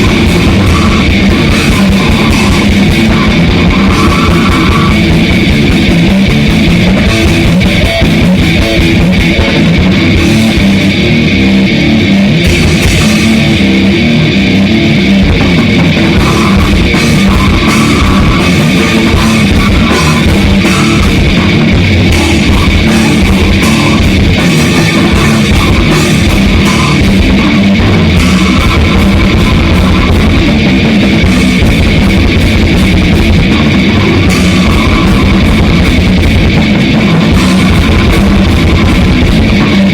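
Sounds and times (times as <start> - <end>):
distorted electric guitar: 0.0 - 39.9
fast drum-kit hits: 0.0 - 39.9.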